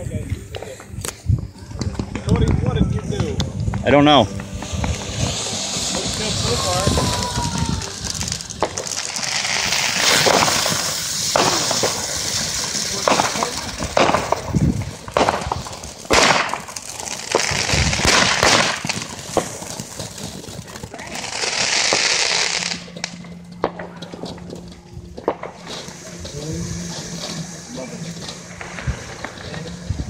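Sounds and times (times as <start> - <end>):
firework cracks and pops: 0.0 - 30.0
firework fountain hissing: 0.0 - 30.0.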